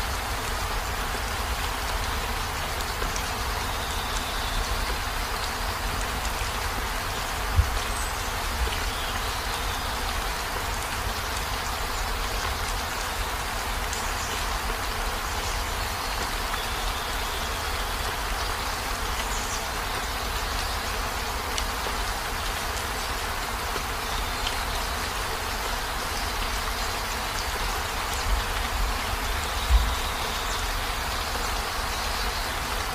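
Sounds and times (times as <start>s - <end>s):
rain on vehicle roof: 0.0s - 32.9s.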